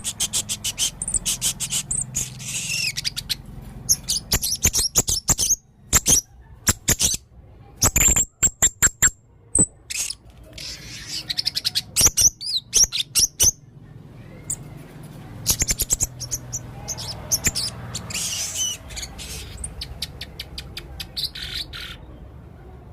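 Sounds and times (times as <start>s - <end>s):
parrot chirps and trills: 0.0s - 22.4s.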